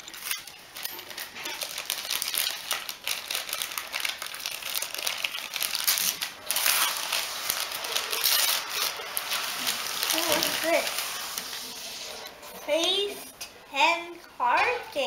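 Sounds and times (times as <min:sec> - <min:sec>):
wrapping paper tearing and crinkling: 0:00.0 - 0:12.6.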